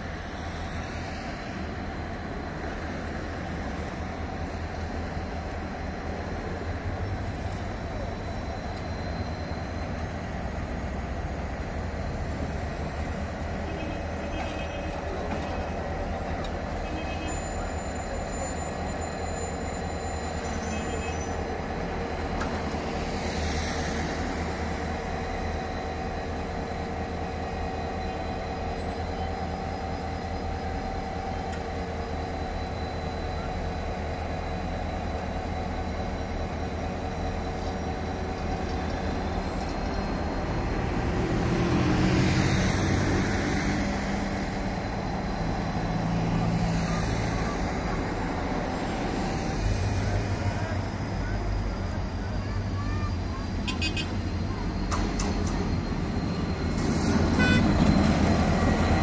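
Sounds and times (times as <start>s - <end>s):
locomotive engine droning: 0.0s - 59.0s.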